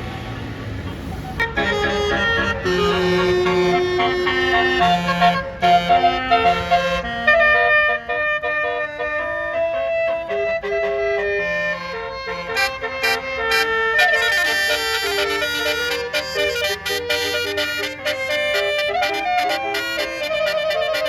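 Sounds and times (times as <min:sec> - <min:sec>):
bus musical air horn melody: 0:01.0 - 0:21.0.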